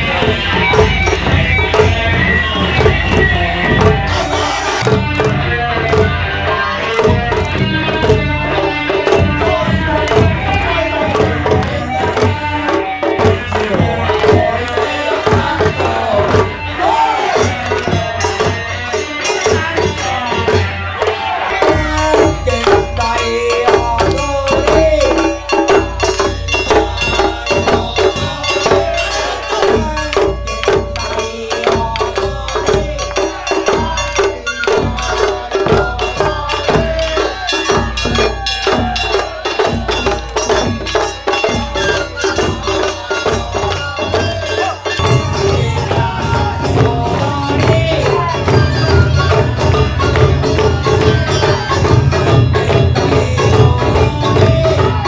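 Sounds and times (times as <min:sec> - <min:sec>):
taiko drums beating: 0:00.0 - 0:55.0.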